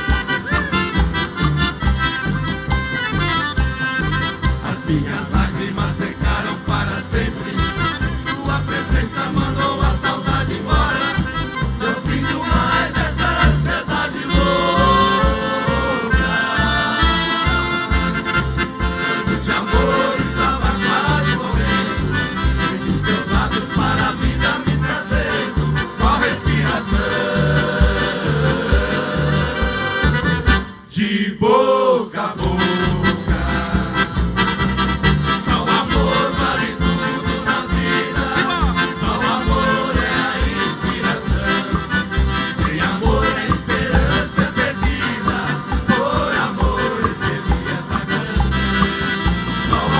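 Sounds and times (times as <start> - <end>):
live instrumental country band music: 0.0 - 30.9, 32.4 - 49.9.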